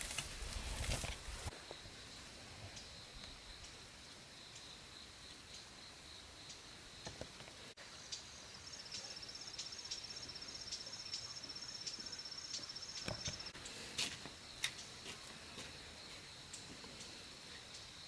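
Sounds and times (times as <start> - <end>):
insect chorus humming: 0.0 - 18.0.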